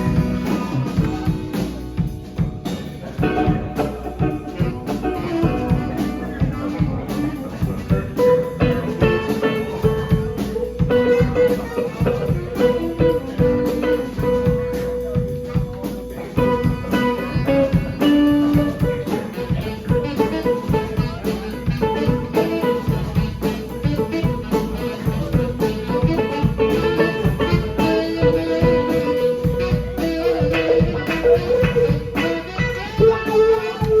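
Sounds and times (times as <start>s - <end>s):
bass: 0.0s - 34.0s
drums: 0.0s - 34.0s
guitar playing: 0.0s - 34.0s.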